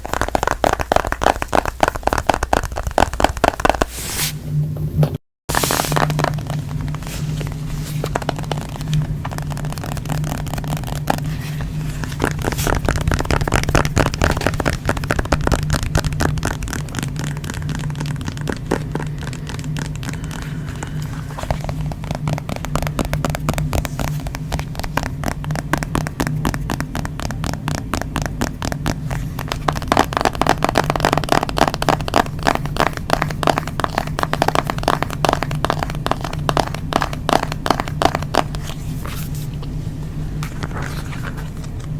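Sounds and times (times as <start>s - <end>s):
fingers tapping on smartphone: 0.0s - 3.9s, 6.0s - 38.8s
low hum: 4.3s - 41.9s.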